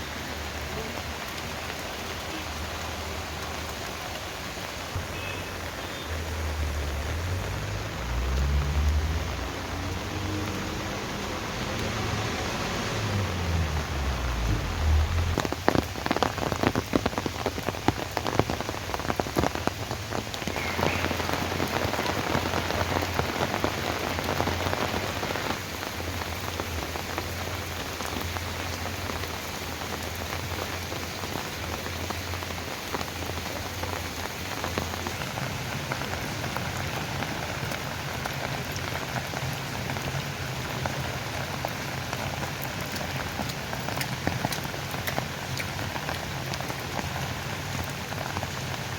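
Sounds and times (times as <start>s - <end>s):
rain falling: 0.0s - 48.9s
raindrops crackling on a surface: 0.0s - 48.9s.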